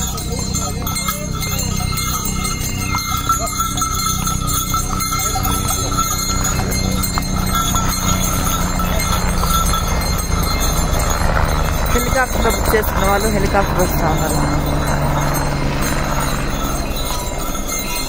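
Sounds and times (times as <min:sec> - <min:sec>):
harness bells jingling: 0:00.0 - 0:18.0
hooves clopping on stone: 0:00.0 - 0:18.0
steady low rumble: 0:00.0 - 0:18.0.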